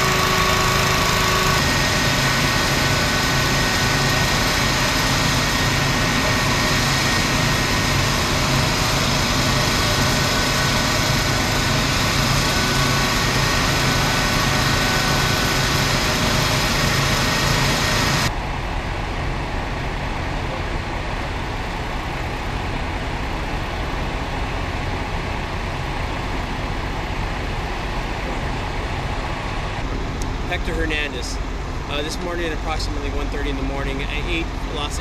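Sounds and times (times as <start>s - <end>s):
fire engine idling: 0.0s - 35.0s.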